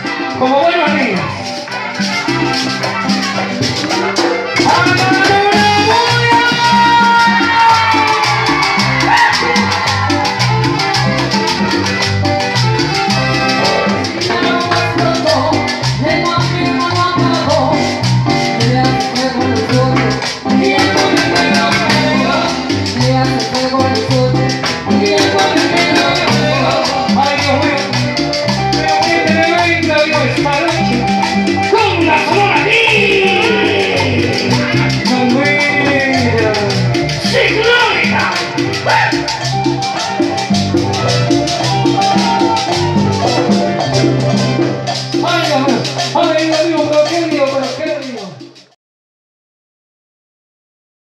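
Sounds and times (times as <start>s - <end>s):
live dance band with percussion: 0.0s - 48.8s.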